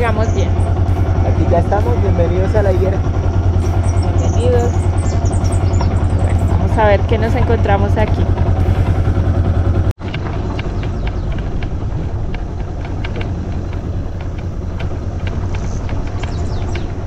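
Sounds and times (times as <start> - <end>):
low outdoor rumble: 0.0 - 17.0
motorcycle engine idling: 0.0 - 17.0.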